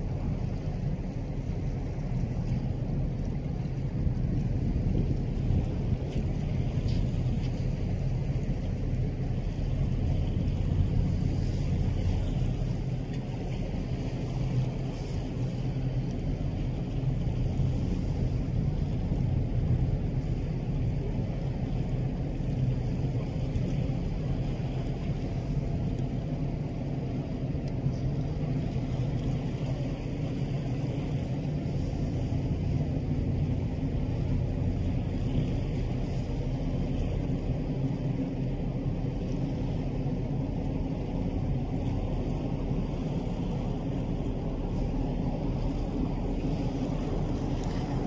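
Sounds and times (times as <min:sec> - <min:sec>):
ship machinery low rumble: 0:00.0 - 0:48.0.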